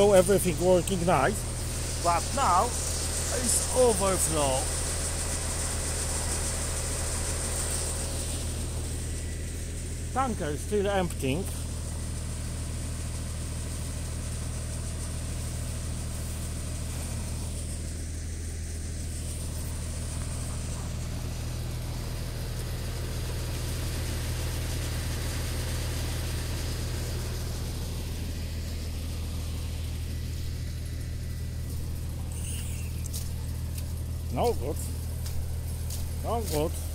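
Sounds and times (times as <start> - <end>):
pump engine humming: 0.0 - 36.9.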